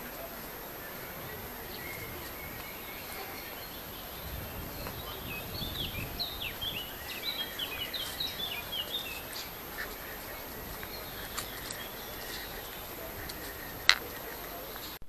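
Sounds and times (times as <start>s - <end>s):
faint outdoor background noise: 0.0s - 15.0s
small bird singing: 0.1s - 15.0s.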